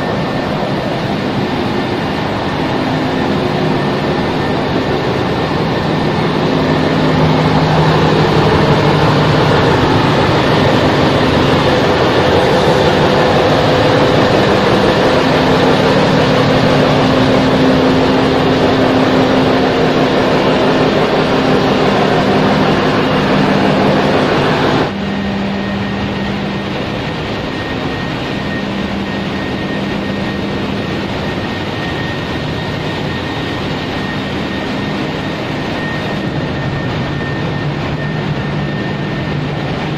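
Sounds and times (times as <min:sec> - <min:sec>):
engine room machinery din: 0:00.0 - 0:39.9
thin high whine: 0:00.0 - 0:39.9.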